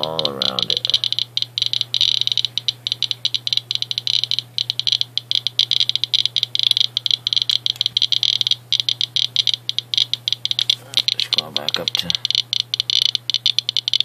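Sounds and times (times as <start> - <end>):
geiger counter clicking: 0.0 - 14.0.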